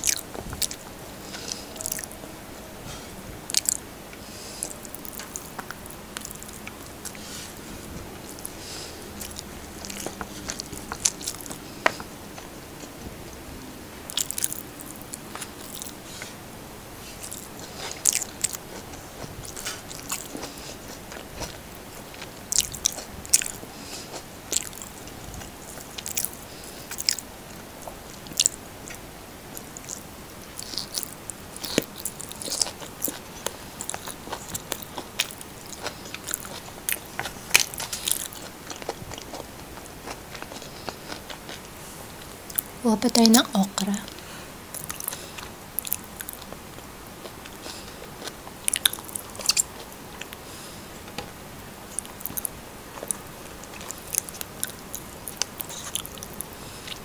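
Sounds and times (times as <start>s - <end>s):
chewing: 0.0s - 2.3s, 2.9s - 13.0s, 14.0s - 16.4s, 17.0s - 42.8s, 44.0s - 57.0s.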